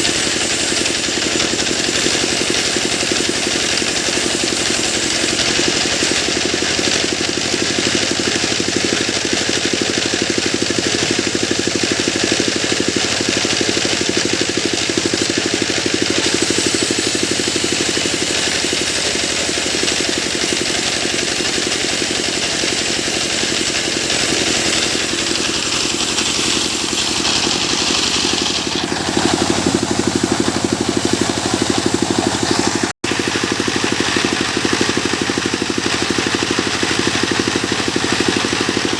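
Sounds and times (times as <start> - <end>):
sawmill machine engine running: 0.0 - 38.9.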